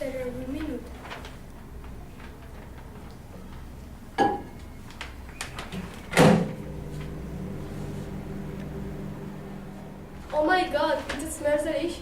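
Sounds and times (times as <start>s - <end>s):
microwave humming: 0.0s - 12.0s.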